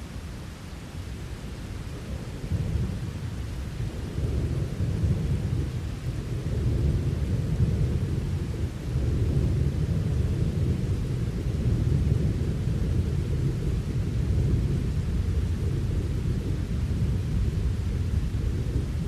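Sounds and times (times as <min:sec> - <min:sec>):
steady rain: 0:00.0 - 0:19.0
thunder rumbling: 0:01.9 - 0:19.0.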